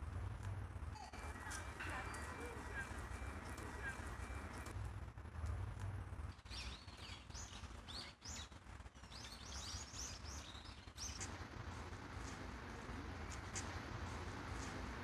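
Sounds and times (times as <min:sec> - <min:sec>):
low outdoor rumble: 0:00.0 - 0:08.9, 0:09.5 - 0:15.0.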